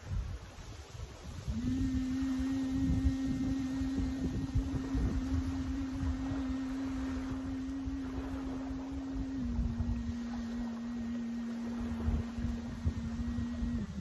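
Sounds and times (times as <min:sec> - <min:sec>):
wind rumbling on microphone: 0:00.0 - 0:14.0
woman humming a long note: 0:01.3 - 0:14.0.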